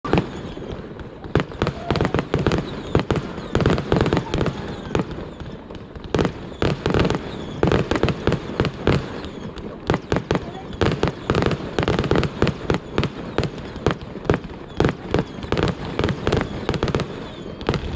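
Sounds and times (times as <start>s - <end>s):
fireworks bursting: 0.0s - 17.9s.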